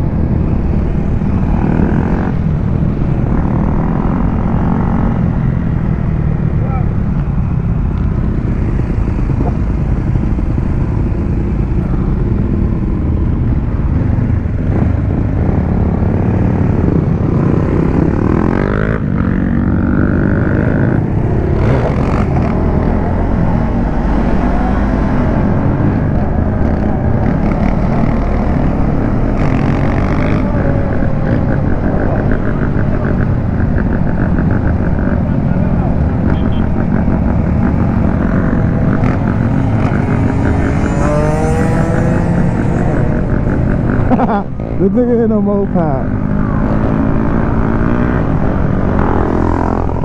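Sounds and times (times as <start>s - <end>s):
motorcycle engines rumbling and revving: 0.0s - 50.0s.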